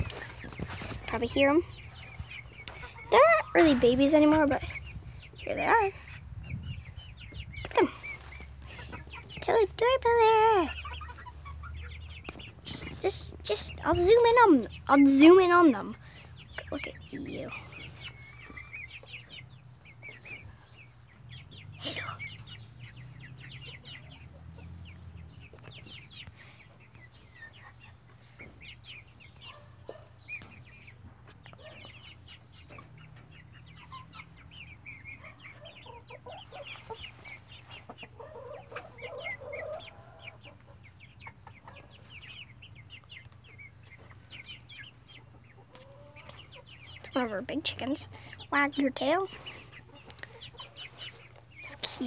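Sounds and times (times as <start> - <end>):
chickens clucking: 0.0 - 52.0
chicks peeping: 0.0 - 52.0.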